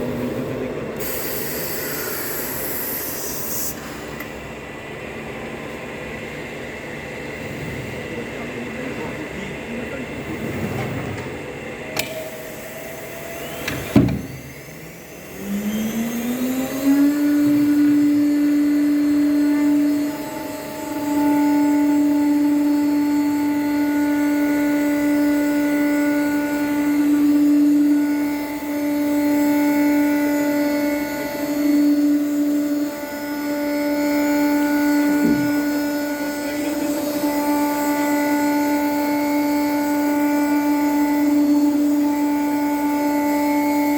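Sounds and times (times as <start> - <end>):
router spindle whining: 5.6 - 43.9.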